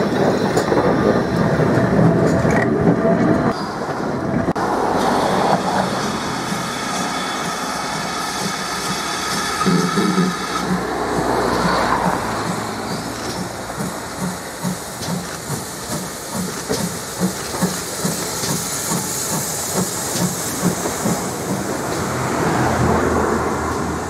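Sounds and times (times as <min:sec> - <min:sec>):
steam locomotive hissing and chuffing: 0:00.0 - 0:24.0.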